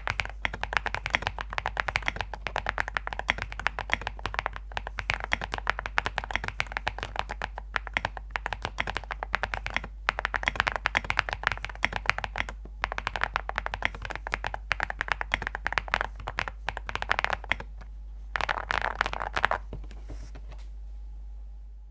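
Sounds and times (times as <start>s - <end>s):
mechanical keyboard typing: 0.0s - 19.7s.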